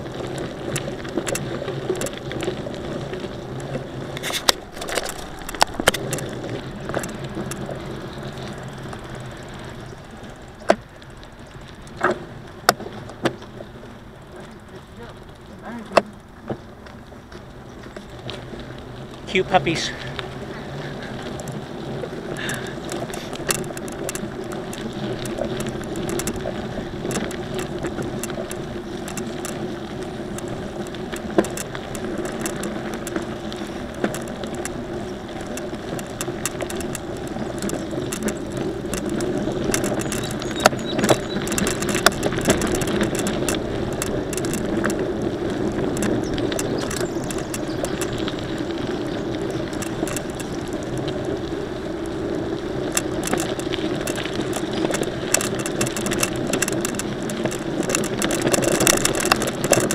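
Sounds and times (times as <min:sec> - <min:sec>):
bike rattling and clicking: 0:00.0 - 0:59.9
bike rolling: 0:00.0 - 0:59.9
wind noise: 0:00.0 - 0:59.9.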